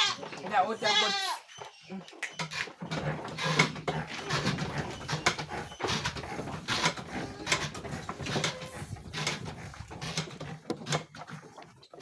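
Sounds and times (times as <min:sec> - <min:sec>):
goats knocking and scuffling: 0:00.0 - 0:12.0.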